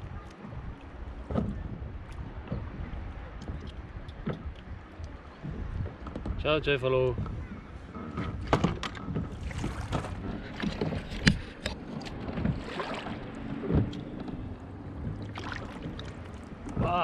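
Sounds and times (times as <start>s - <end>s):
lapping sea water: 0.0s - 17.0s
wind: 0.0s - 17.0s
knocks and bumps on a kayak: 0.1s - 17.0s.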